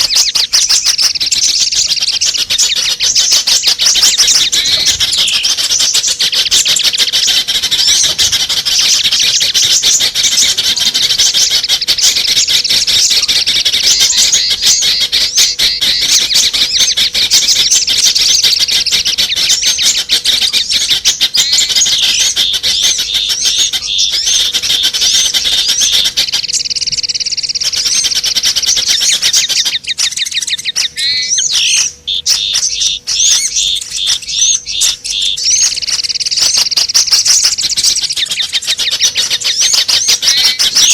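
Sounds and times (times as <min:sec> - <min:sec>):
faint steady hum: 0:00.0 - 0:40.9
songbirds chittering and trilling: 0:00.0 - 0:40.9.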